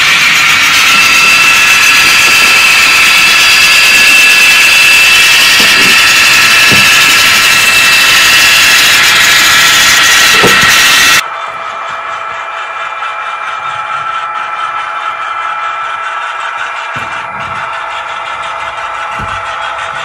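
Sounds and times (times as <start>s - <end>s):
model locomotive whine: 0.0s - 20.0s.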